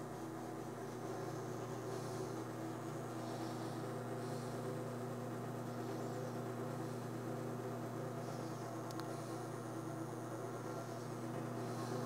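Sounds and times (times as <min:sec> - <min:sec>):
espresso machine pump humming: 0:00.0 - 0:12.0.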